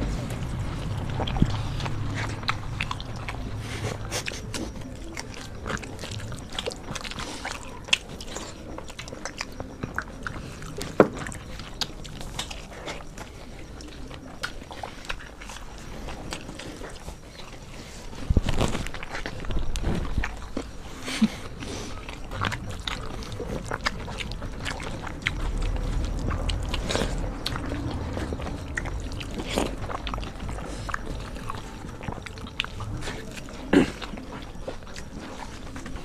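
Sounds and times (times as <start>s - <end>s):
people chewing and crunching food: 0.0s - 36.0s.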